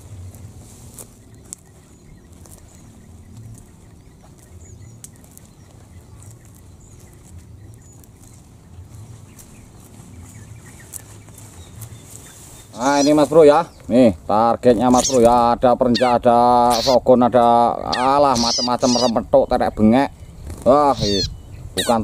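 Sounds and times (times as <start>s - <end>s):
bird chirps: 0.0s - 14.0s, 14.7s - 22.0s
leaves rustling: 0.0s - 19.3s.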